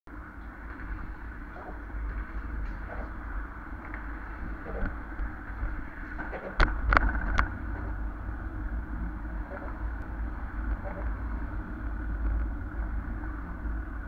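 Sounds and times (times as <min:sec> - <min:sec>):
wind rumble on microphone: 0:00.1 - 0:14.0
bicycle tyre noise: 0:00.2 - 0:14.0.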